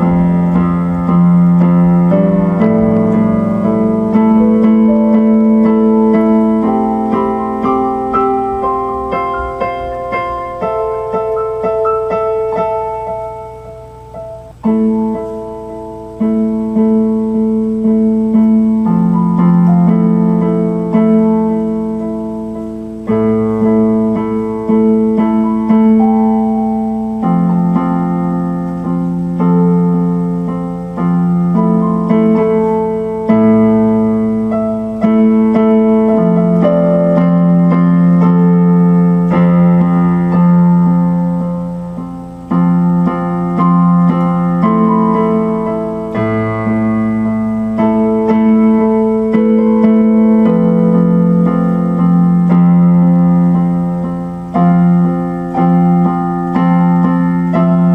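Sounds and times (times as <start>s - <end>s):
electric piano chords: 0.0s - 57.9s.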